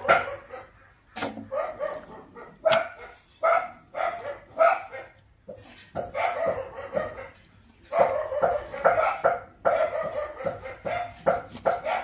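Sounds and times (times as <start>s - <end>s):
dog barking: 0.0s - 5.2s, 6.0s - 12.0s.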